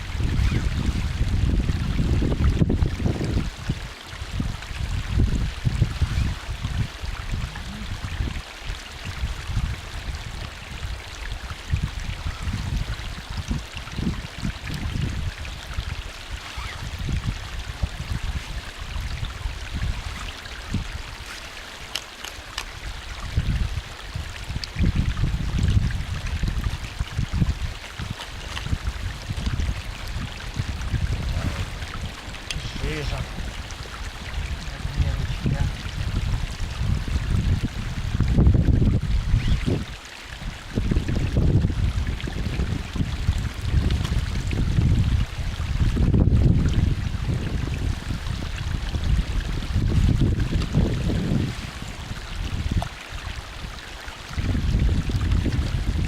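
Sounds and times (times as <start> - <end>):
stream water rushing: 0.0 - 56.0
wind buffeting microphone: 0.0 - 56.0.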